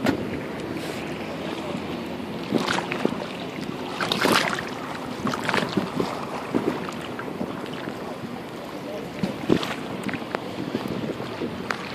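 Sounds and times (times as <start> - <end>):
waves lapping against a seawall: 0.0 - 11.9.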